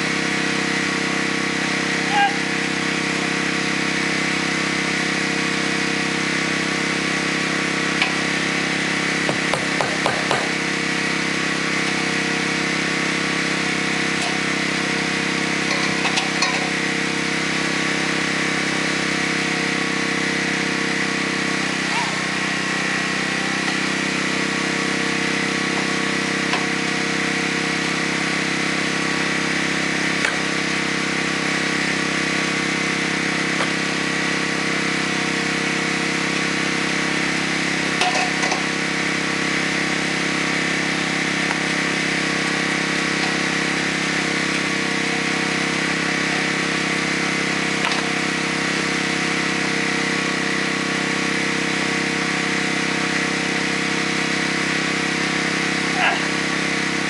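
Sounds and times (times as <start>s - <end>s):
small engine droning: 0.0s - 57.0s.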